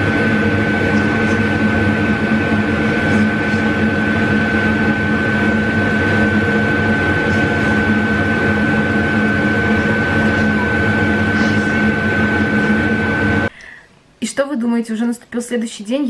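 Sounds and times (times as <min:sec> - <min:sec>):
appliance hum with high whine: 0:00.0 - 0:16.0.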